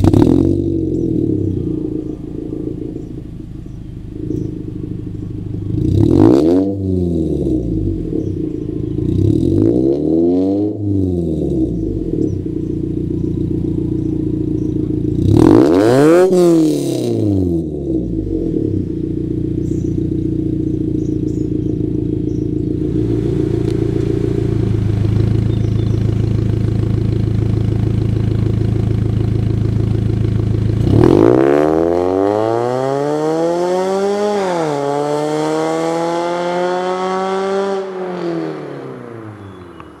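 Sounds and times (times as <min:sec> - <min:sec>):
car exhaust revving: 0:00.0 - 0:40.0.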